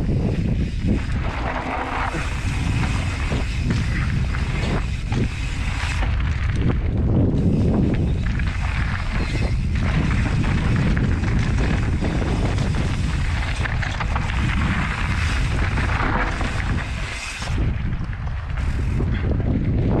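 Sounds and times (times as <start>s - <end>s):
mountain bike rattling: 0.0s - 20.0s
tyres crunching over dirt trail: 0.0s - 20.0s
wind buffeting microphone: 0.0s - 20.0s.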